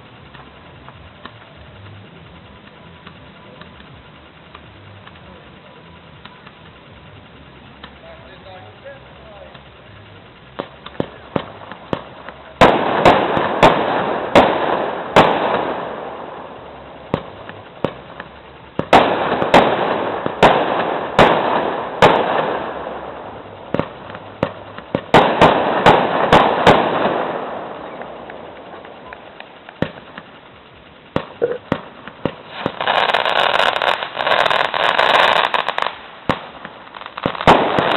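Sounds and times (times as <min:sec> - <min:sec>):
firework launch pops: 0:00.0 - 0:05.3, 0:10.6 - 0:23.0, 0:23.6 - 0:37.9
firework shells bursting: 0:00.0 - 0:37.9
rumbling firework tail: 0:00.0 - 0:37.9.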